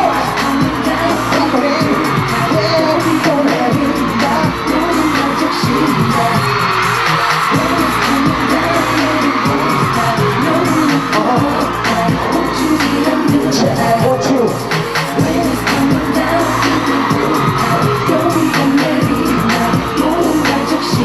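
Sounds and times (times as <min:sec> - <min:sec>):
dance-pop backing music: 0:00.0 - 0:21.0
person singing: 0:00.0 - 0:21.0.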